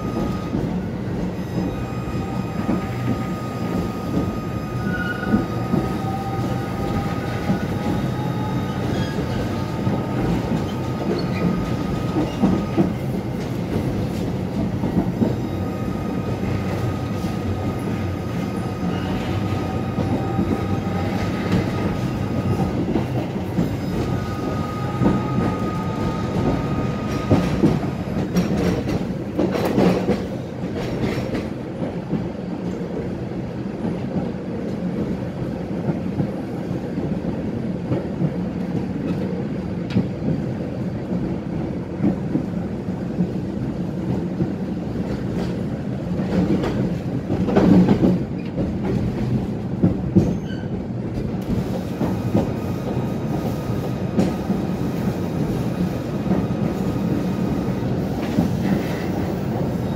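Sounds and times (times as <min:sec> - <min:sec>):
tram wheels rumbling on rail: 0:00.0 - 0:59.9.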